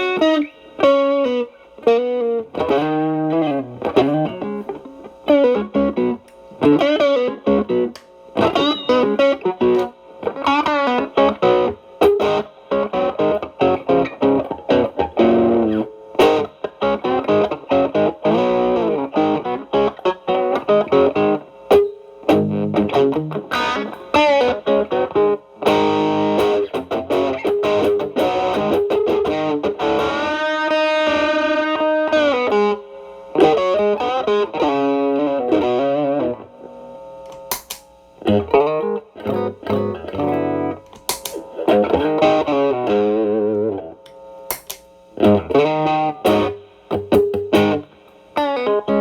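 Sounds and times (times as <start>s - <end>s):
overdriven electric guitar lead: 0.0s - 49.0s.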